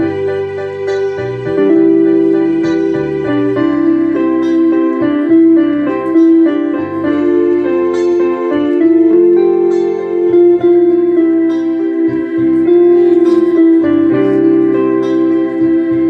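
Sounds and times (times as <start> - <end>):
electric piano chords and melody: 0.0 - 16.0.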